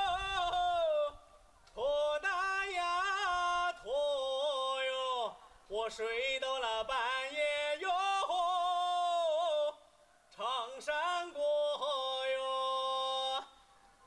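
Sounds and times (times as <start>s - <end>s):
man singing unaccompanied: 0.0s - 13.7s.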